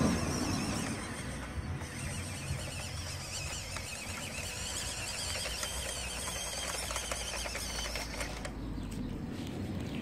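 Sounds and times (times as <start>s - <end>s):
toy truck electric motor whining: 0.0s - 8.6s.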